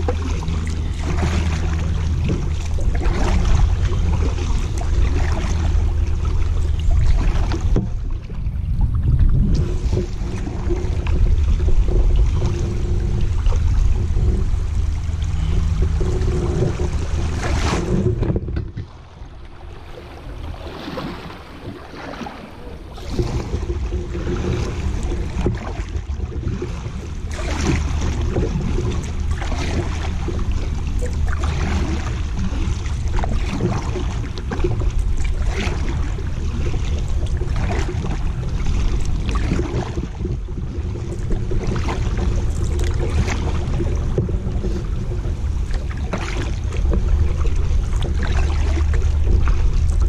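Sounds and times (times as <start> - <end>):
paddle strokes splashing: 0.0 - 50.0
water rushing and splashing: 0.0 - 50.0
wind rumbling on microphone: 0.0 - 50.0.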